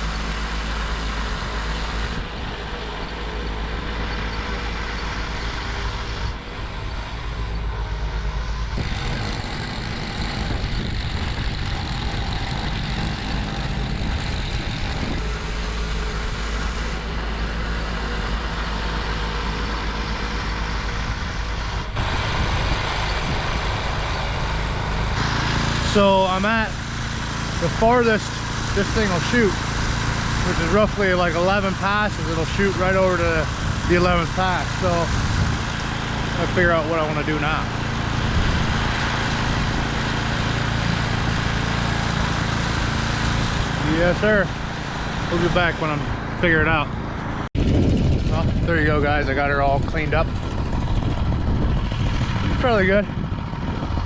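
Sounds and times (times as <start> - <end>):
snowblower engine drone: 0.0 - 54.0.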